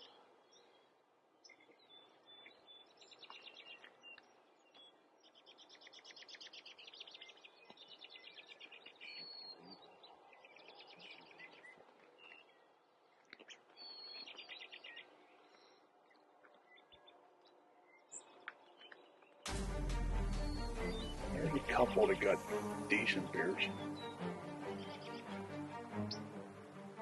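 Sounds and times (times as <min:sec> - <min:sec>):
songbirds trilling and chirping: 0:00.0 - 0:27.0.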